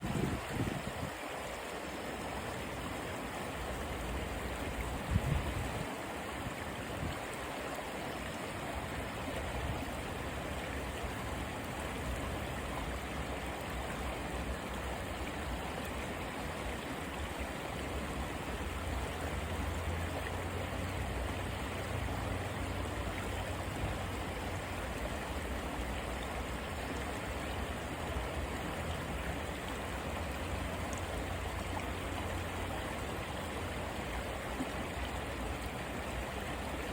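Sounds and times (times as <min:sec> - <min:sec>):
river water rushing: 0:00.0 - 0:36.9.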